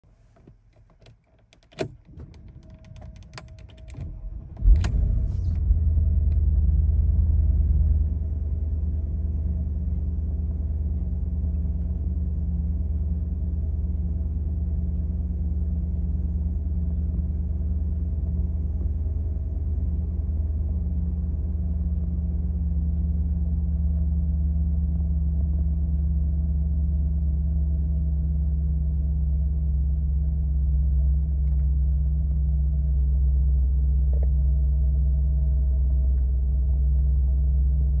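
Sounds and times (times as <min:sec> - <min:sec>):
car engine idling: 0:01.5 - 0:38.0.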